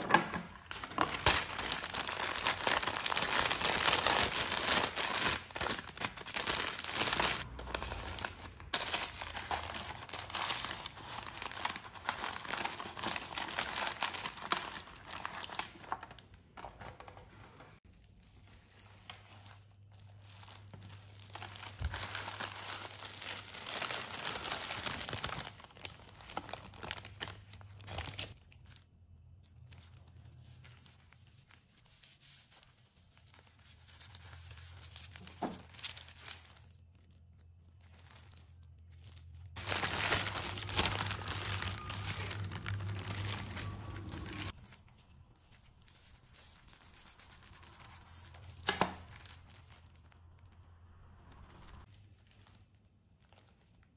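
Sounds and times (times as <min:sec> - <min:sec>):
baking paper crinkling: 0:00.0 - 0:53.9.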